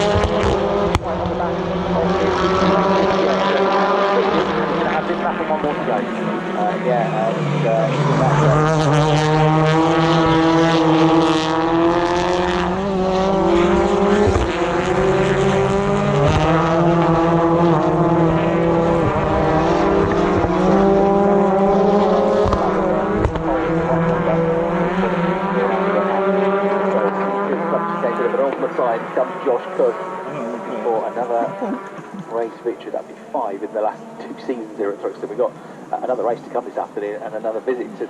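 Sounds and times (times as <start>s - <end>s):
race car engines passing: 0.0s - 38.0s.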